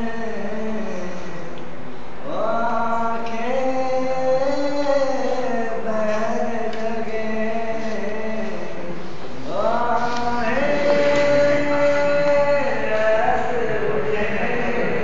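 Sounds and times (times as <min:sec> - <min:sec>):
man singing long notes: 0:00.0 - 0:01.6, 0:02.2 - 0:15.0.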